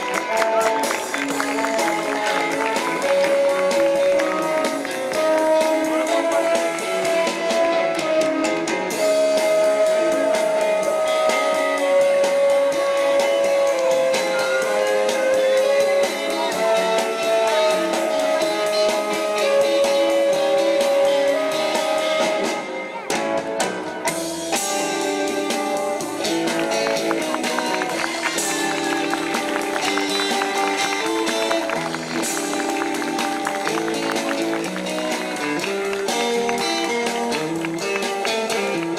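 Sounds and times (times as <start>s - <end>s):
band playing guitar and drums: 0.0s - 38.9s.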